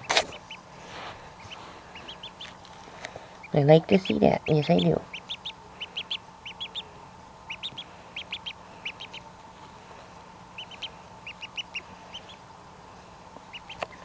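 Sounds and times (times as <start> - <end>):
duckling peeping: 0.0 - 9.5, 10.4 - 12.6, 13.4 - 14.0.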